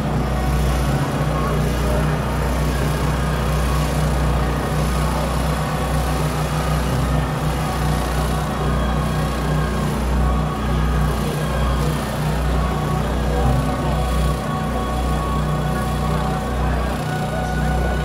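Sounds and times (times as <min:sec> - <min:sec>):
low engine drone: 0:00.0 - 0:18.0
murmur of outdoor crowd: 0:00.0 - 0:18.0.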